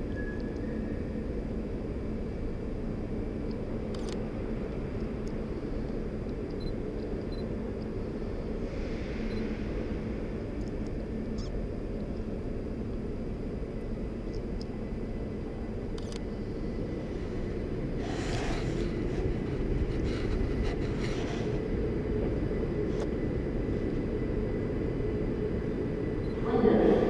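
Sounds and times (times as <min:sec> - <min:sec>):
low rumble of station hall: 0:00.0 - 0:27.0.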